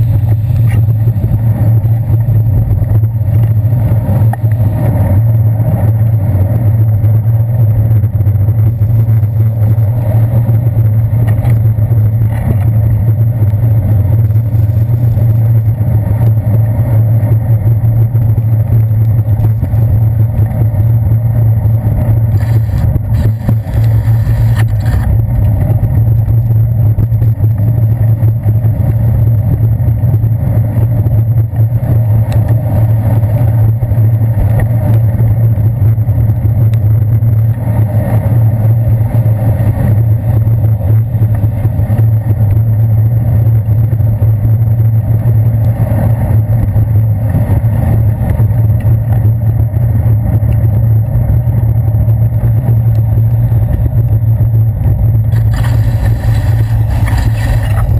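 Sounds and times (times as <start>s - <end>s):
heavy traffic rumble: 0.0s - 57.9s.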